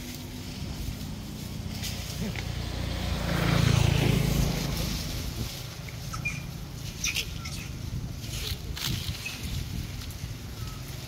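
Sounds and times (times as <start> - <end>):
road noise: 0.0 - 11.0
vehicle engine rumble passing: 0.0 - 11.0.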